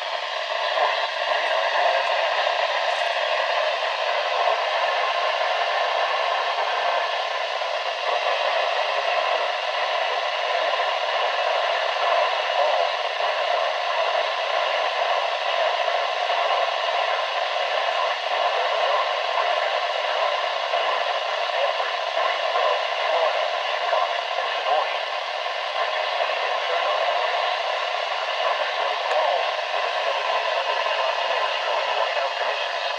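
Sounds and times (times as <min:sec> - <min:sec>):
radio static hiss: 0:00.0 - 0:32.9.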